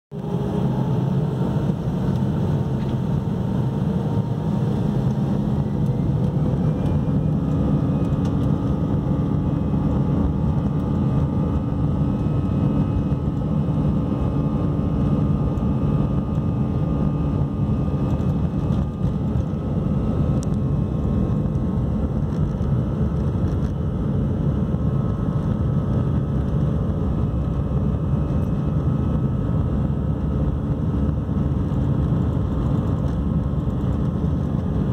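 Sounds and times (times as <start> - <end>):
engine whine: 0.1 - 34.9
jet engines roaring in cabin: 0.1 - 34.9.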